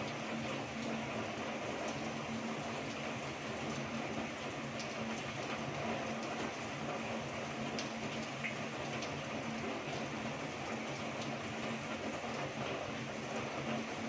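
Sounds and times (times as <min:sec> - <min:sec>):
heavy rain falling: 0:00.0 - 0:14.0
raindrops ticking nearby: 0:00.0 - 0:14.0.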